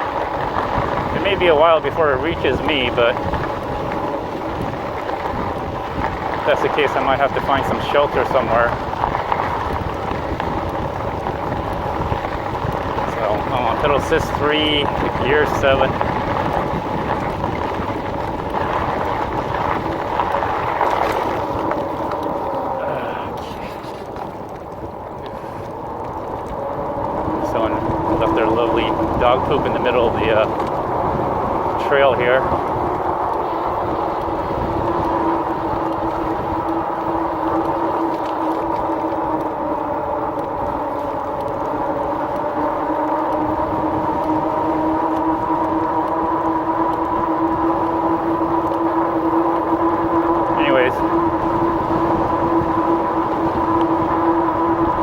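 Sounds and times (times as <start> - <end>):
electric bike motor whining: 0.0 - 55.0
low rumble: 0.0 - 55.0
wind rushing over microphone: 0.0 - 55.0.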